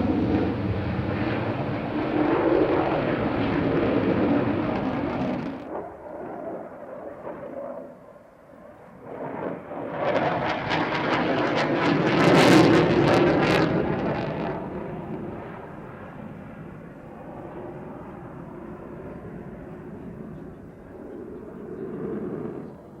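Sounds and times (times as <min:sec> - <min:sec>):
jet flying past: 0:00.0 - 0:23.0.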